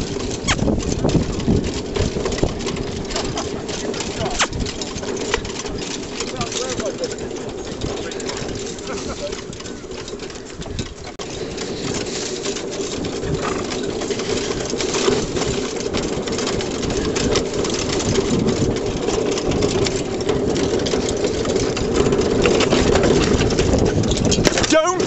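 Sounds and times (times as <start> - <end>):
cart rattling over bumpy grass: 0.0 - 25.0.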